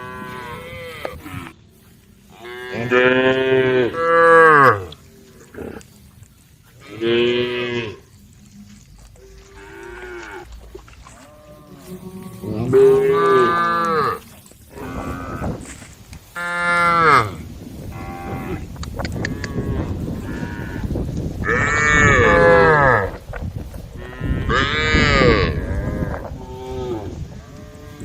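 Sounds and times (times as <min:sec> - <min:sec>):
cattle mooing: 0:02.3 - 0:05.9, 0:06.8 - 0:15.8, 0:16.4 - 0:23.2, 0:24.0 - 0:28.0.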